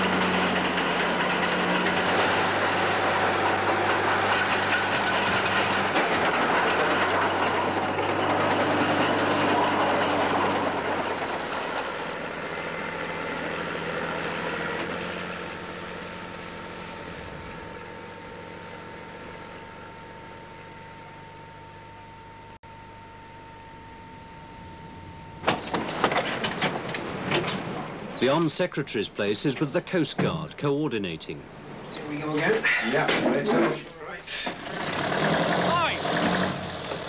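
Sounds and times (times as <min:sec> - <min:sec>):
tracked tractor running and clattering: 0:00.0 - 0:21.1, 0:25.4 - 0:37.0.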